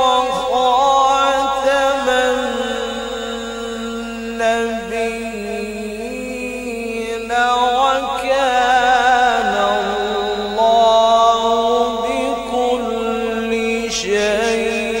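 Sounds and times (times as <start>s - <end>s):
man reciting in melodic phrases: 0.0s - 15.0s.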